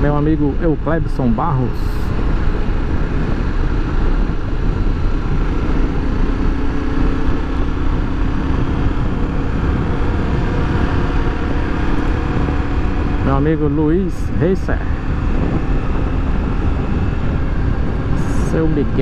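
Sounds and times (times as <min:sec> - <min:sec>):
motorcycle engine running: 0:00.0 - 0:19.0
wind on microphone: 0:00.0 - 0:19.0.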